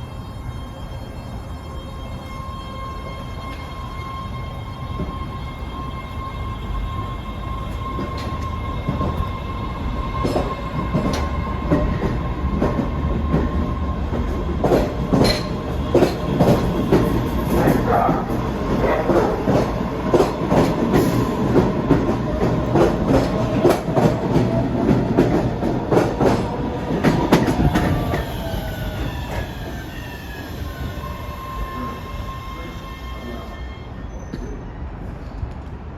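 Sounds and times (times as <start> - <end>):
train running: 0.0 - 35.9.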